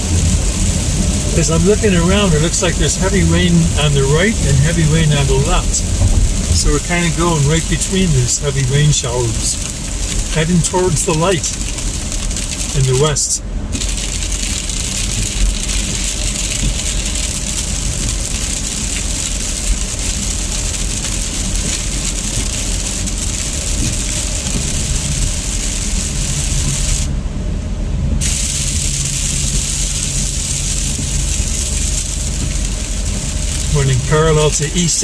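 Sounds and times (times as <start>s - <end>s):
tyre spray and rain hiss: 0.0s - 27.1s, 28.2s - 35.0s
road and engine rumble: 0.0s - 35.0s.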